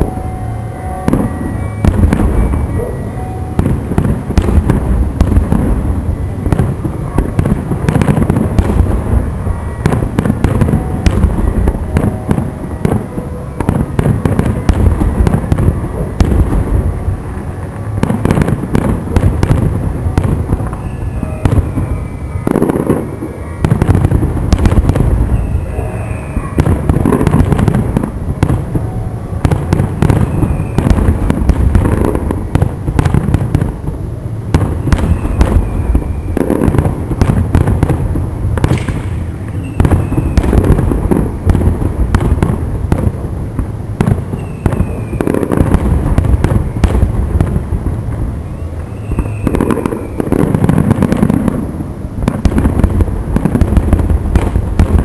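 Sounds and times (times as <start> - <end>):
fireworks bangs and crackling: 0.0 - 55.0
fireworks falling whistles: 0.0 - 55.0.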